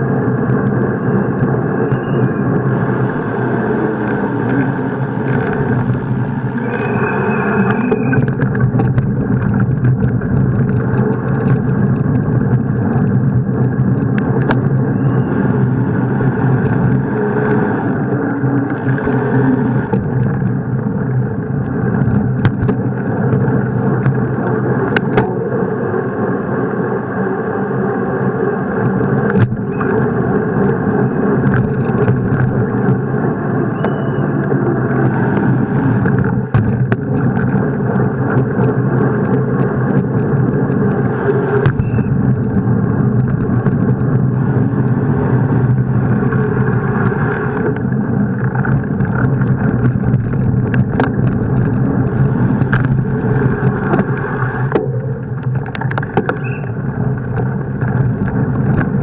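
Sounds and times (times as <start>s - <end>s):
bicycle tyres rolling: 0.0s - 59.0s
wind rush: 0.0s - 59.0s.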